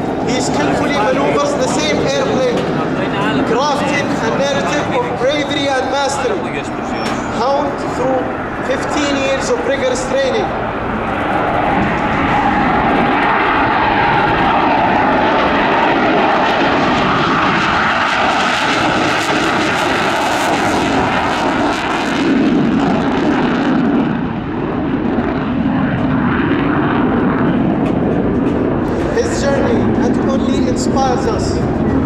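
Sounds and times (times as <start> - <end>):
fighter jet engines: 0.0 - 32.0.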